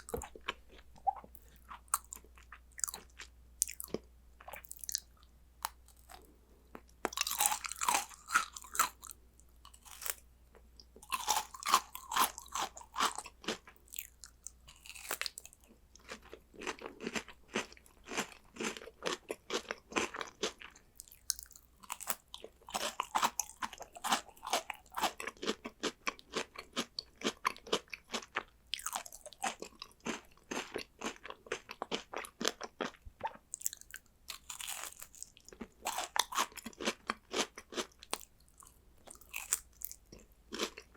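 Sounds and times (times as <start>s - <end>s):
crunching and chewing snacks: 0.0s - 10.2s, 11.0s - 40.9s.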